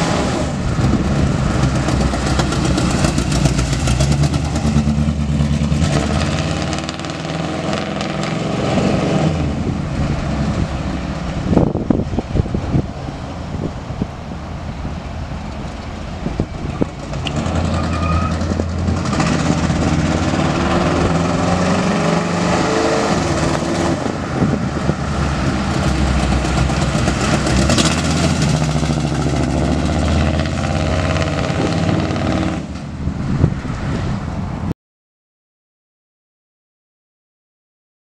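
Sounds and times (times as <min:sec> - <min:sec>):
pickup engine revving: 0:00.0 - 0:32.8.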